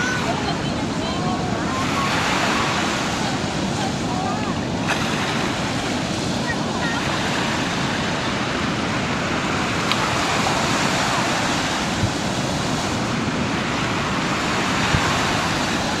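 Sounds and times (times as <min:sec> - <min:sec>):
waves washing onto a beach: 0:00.0 - 0:16.0.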